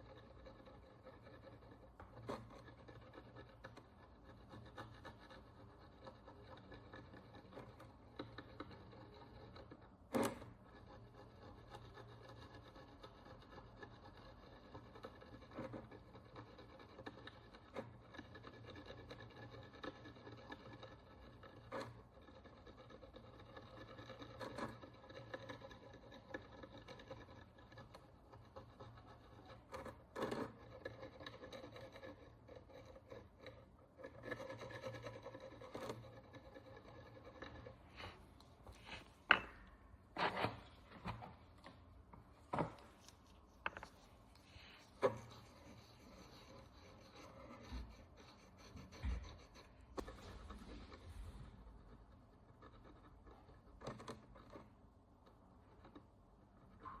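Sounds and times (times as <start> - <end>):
hand tool scraping a coin: 0.0 - 41.4, 42.6 - 50.9.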